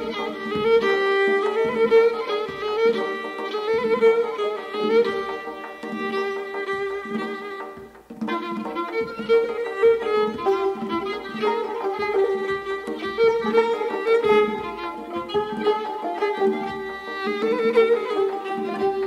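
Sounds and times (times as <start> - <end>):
bowed string instrument melody: 0.0 - 19.0.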